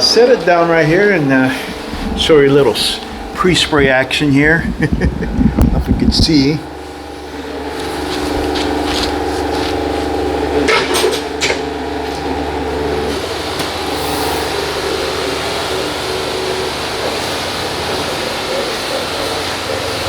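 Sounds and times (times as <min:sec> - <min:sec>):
electric pump sprayer motor hum: 0:00.0 - 0:20.0.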